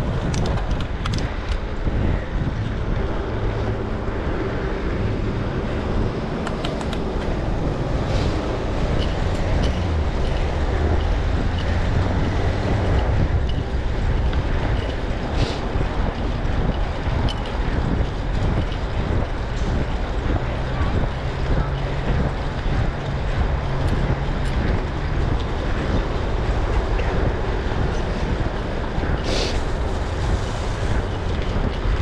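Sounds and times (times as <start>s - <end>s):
vehicle running: 0.0s - 32.0s
wind noise on microphone: 0.0s - 32.0s.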